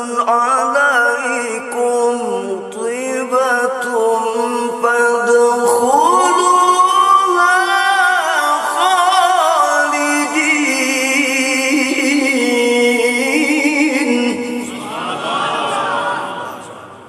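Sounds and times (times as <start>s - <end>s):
man reciting melodically: 0.0s - 16.8s.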